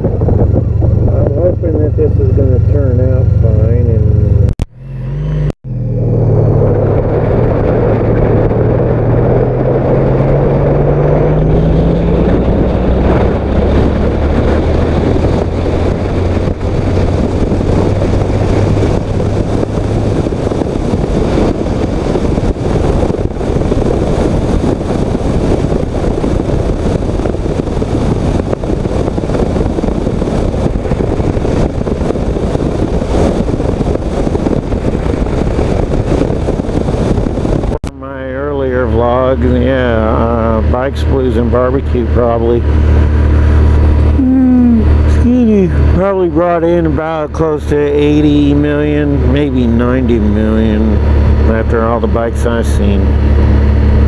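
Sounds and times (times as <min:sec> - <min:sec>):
wind buffeting microphone: 0:00.0 - 0:04.5, 0:05.6 - 0:54.0
motorcycle engine accelerating: 0:00.0 - 0:54.0.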